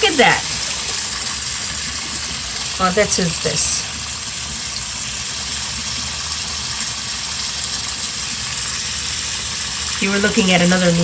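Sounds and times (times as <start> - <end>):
faucet running into sink: 0.0 - 11.0.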